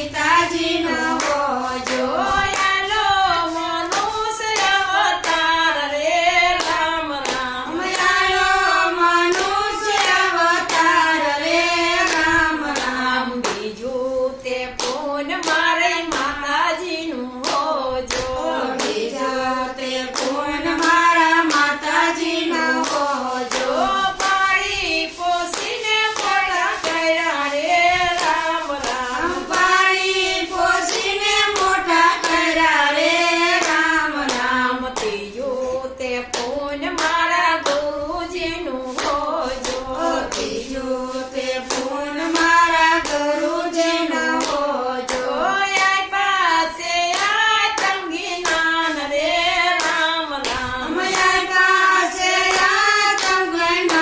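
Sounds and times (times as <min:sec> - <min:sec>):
women singing in unison: 0:00.0 - 0:54.0
hand claps: 0:00.1 - 0:54.0.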